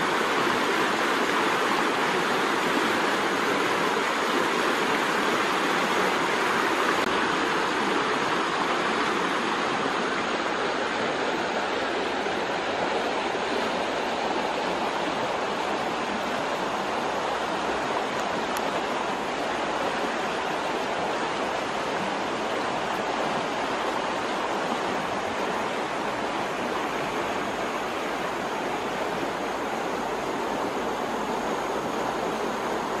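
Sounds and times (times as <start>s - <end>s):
flowing stream rushing: 0.0s - 33.0s.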